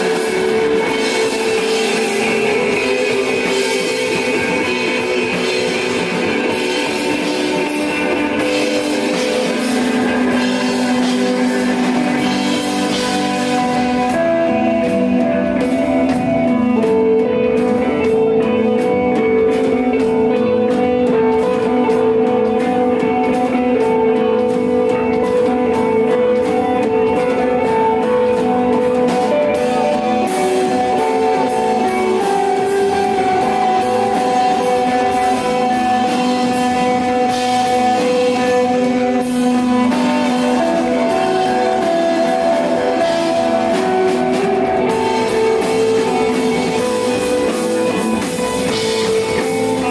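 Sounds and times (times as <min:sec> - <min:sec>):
live rock band playing: 0:00.0 - 0:49.9
long electric guitar notes: 0:00.0 - 0:49.9.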